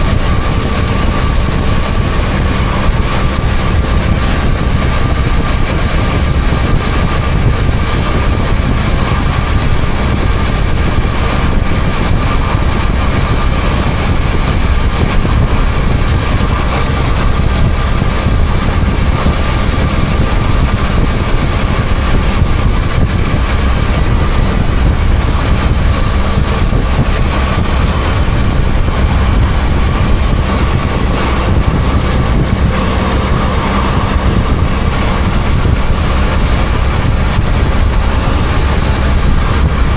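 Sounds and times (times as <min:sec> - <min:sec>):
motorcycle engine rumbling: 0:00.0 - 0:39.9
thin steady whine: 0:00.0 - 0:39.9.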